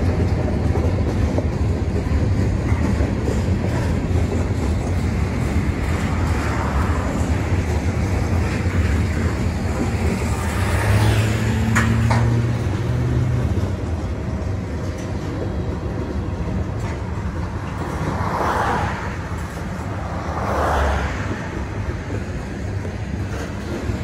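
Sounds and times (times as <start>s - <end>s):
steel wheels rumbling on rail: 0.0s - 24.0s.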